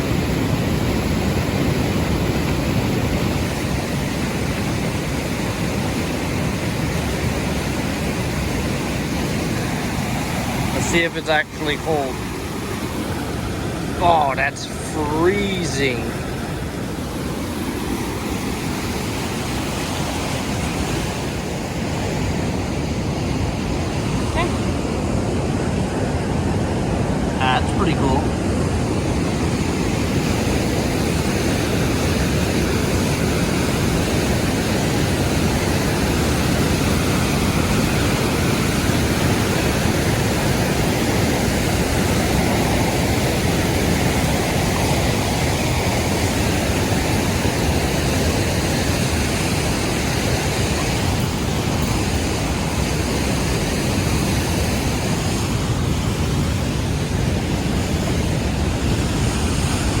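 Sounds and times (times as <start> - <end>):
waterfall roaring: 0.0 - 60.0.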